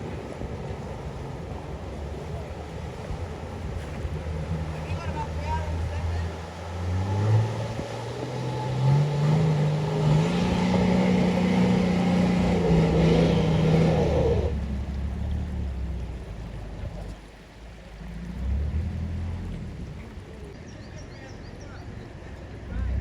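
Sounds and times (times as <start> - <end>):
engine revving under load: 0.0 - 17.2, 17.9 - 20.2.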